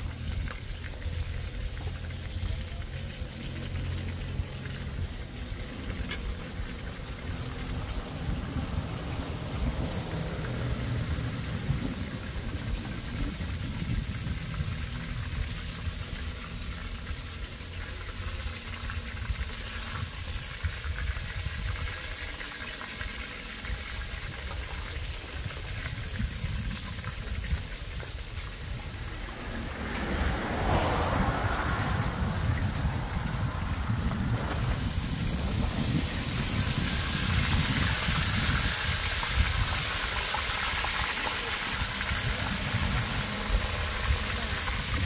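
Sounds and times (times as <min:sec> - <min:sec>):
wind rumbling on microphone: 0:00.0 - 0:45.0.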